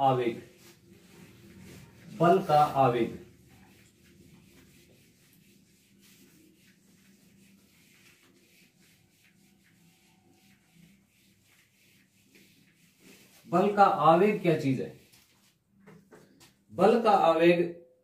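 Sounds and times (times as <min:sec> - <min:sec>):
eraser rubbing on whiteboard: 0:00.2 - 0:15.6.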